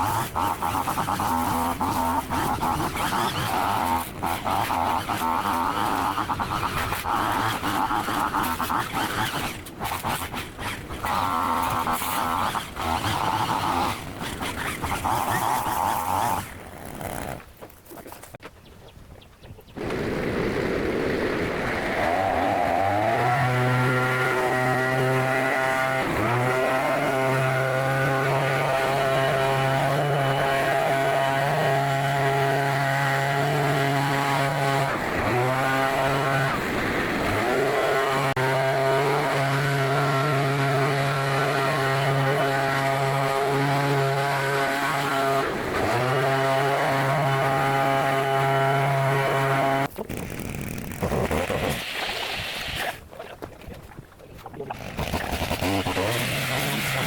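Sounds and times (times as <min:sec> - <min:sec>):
string trimmer engine revving: 0:00.0 - 0:17.4, 0:19.8 - 0:51.8, 0:54.8 - 0:57.0.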